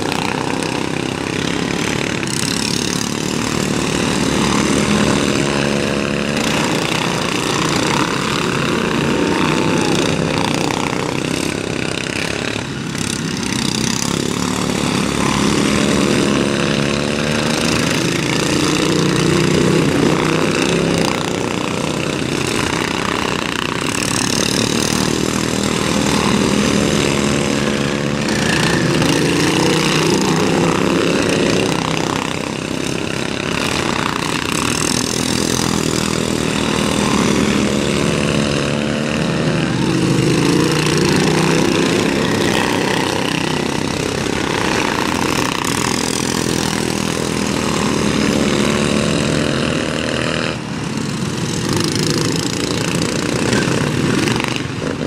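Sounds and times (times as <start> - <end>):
racing lawn mower engines: 0.0 - 55.0.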